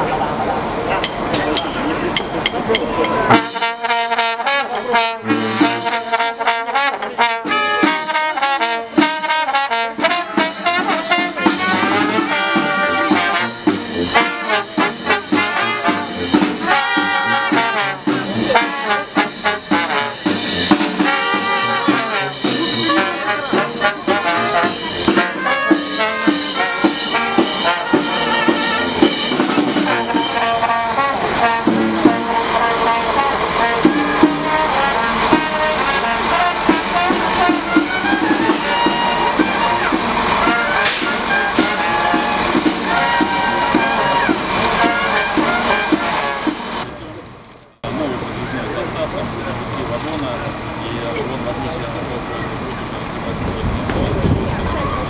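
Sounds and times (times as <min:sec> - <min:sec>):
side drum: 0:01.0 - 0:46.9
brass band playing: 0:01.0 - 0:47.2.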